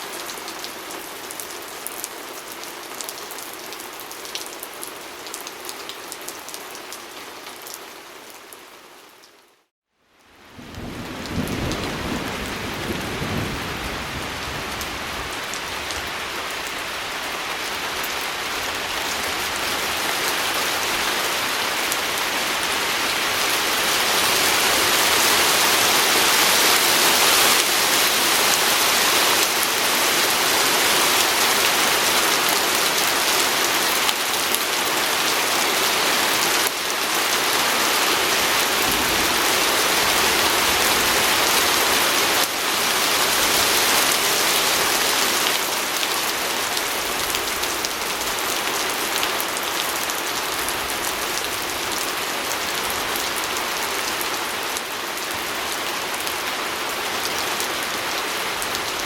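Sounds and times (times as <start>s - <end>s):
heavy rain on a window: 10.3s - 59.0s.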